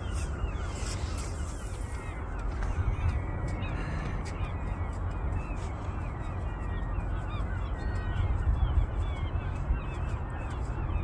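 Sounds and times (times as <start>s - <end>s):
flock of birds chirping: 0.0s - 11.0s
steady low rumble: 1.8s - 11.0s.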